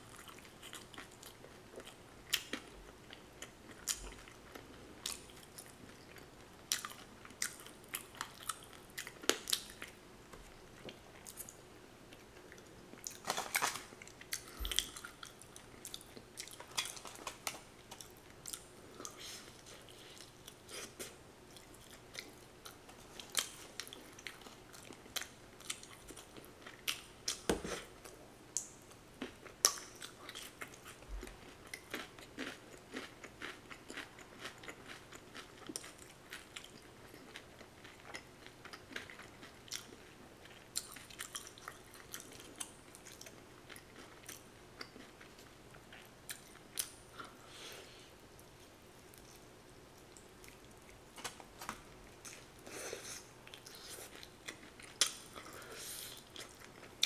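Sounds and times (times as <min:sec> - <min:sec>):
person chewing fried chicken: 0:00.0 - 0:10.0, 0:10.8 - 0:47.6, 0:52.0 - 0:57.0.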